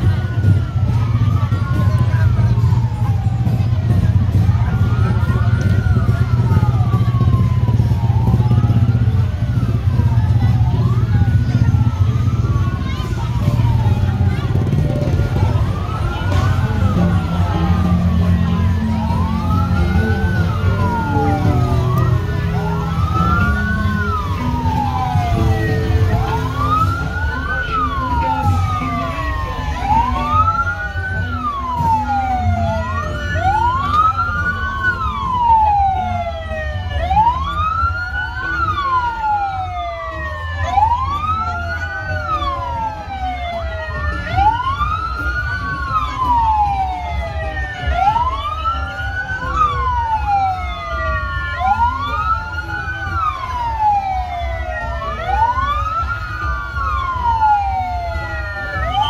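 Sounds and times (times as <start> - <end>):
emergency sirens wailing: 0.0 - 59.0.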